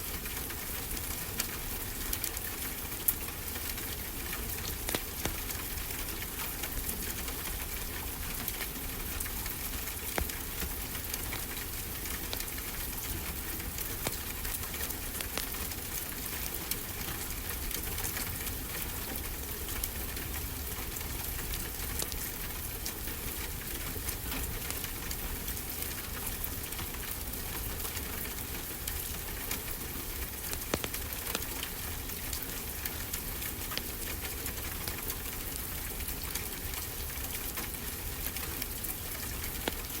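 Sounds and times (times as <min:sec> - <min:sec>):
wood fire crackling: 0:00.2 - 0:23.5, 0:27.8 - 0:40.0.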